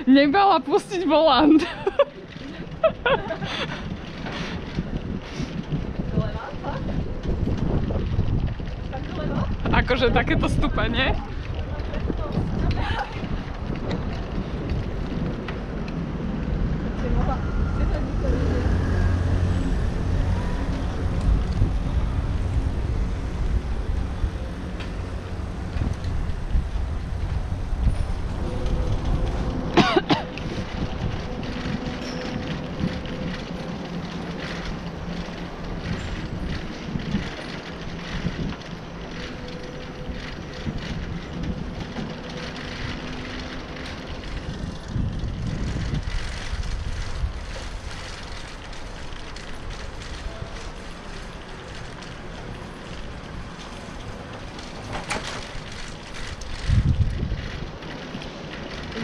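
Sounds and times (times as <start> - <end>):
bicycle road rattle: 0.0 - 59.0
tyres rumbling on brick paving: 0.0 - 59.0
wind buffeting microphone: 0.0 - 59.0.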